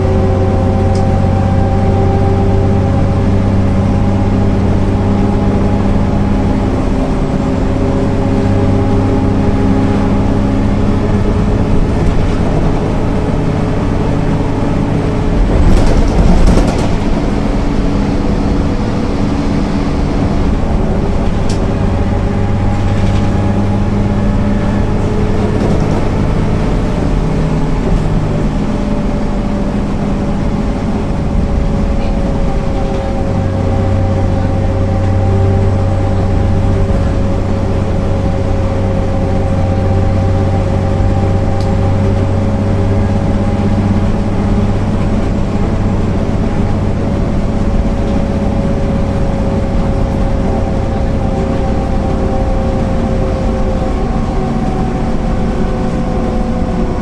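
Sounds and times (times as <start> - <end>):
bus diesel engine droning: 0.0 - 57.0
deep hum: 0.0 - 57.0
drivetrain whine: 0.0 - 57.0.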